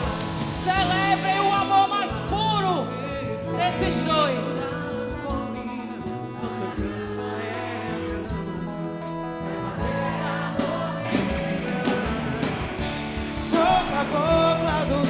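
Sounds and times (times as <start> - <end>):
light percussion: 0.0 - 15.0
slow song with singing: 0.0 - 15.0.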